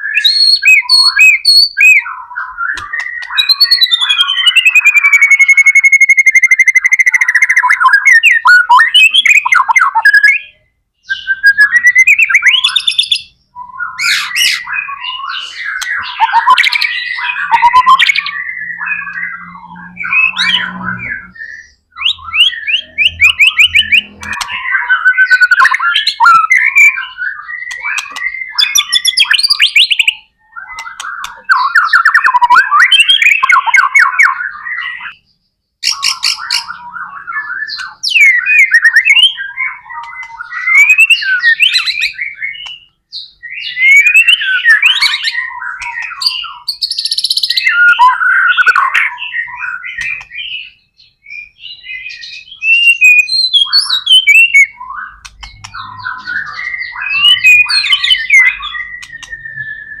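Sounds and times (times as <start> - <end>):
songbird whistling and trilling: 0.0 - 60.0.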